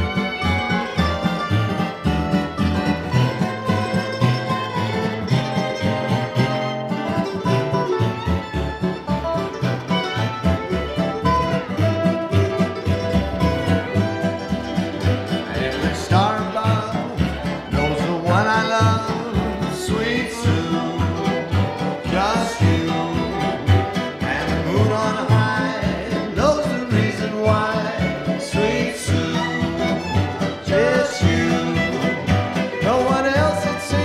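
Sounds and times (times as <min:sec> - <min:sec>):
acoustic guitar: 0:00.0 - 0:34.0
dobro: 0:00.0 - 0:34.0
fiddle: 0:00.0 - 0:34.0
jug band playing swing: 0:00.0 - 0:34.0
jug bass line: 0:00.0 - 0:34.0
mandolin: 0:00.0 - 0:34.0.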